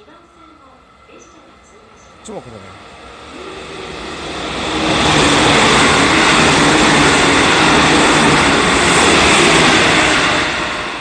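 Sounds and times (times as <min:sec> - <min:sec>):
train passing through station: 0:00.0 - 0:11.0.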